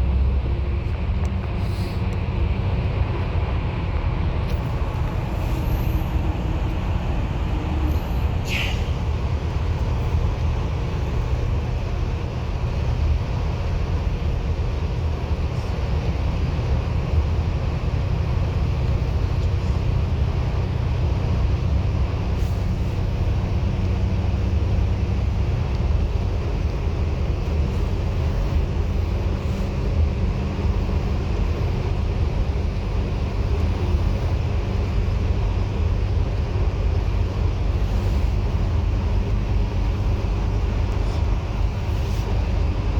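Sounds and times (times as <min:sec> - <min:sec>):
bus engine and road drone: 0:00.0 - 0:42.9.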